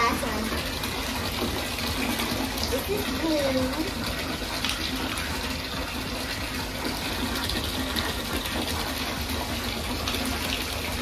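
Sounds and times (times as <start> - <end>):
water pouring into bathtub: 0.0 - 11.0.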